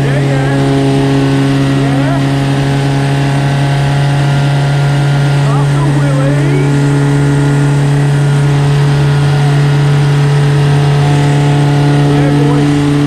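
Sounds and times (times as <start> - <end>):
engine droning at steady revs: 0.0 - 13.0.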